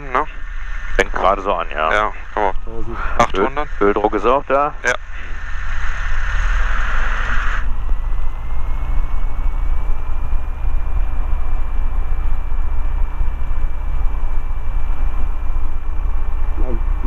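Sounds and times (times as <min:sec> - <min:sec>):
aircraft engine running: 0:00.0 - 0:17.0
thin engine whine: 0:00.0 - 0:17.0.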